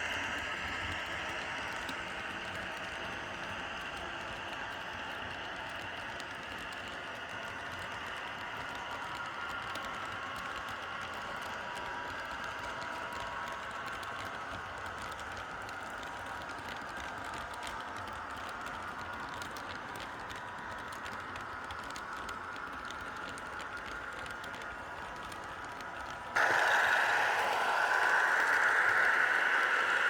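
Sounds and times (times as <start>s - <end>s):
model train whirring on track: 0.0s - 30.0s
wheels clicking on rails: 5.8s - 30.0s.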